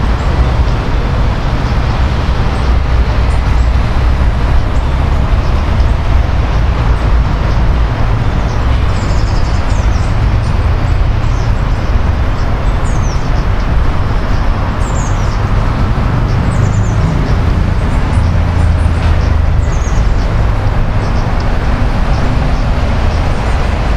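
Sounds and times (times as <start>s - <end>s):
city road traffic rumble: 0.0s - 23.9s.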